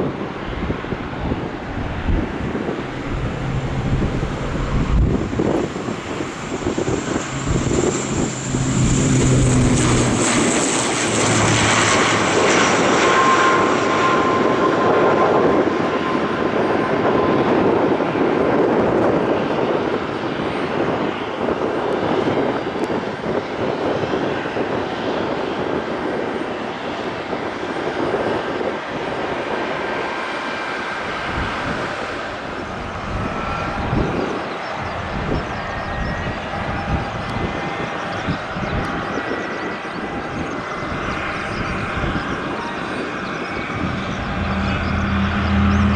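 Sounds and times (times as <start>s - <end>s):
airliner engines roaring: 0.0s - 45.9s.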